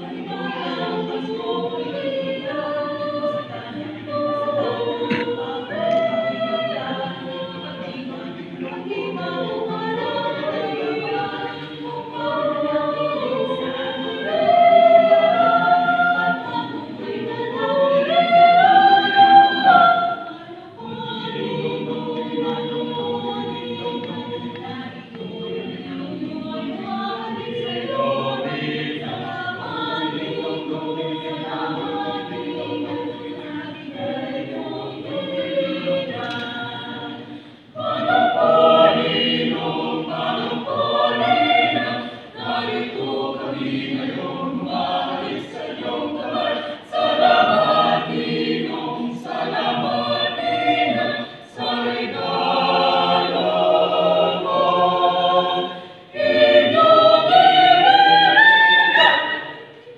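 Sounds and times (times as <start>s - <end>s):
mixed choir singing a carol: 0.0s - 59.9s.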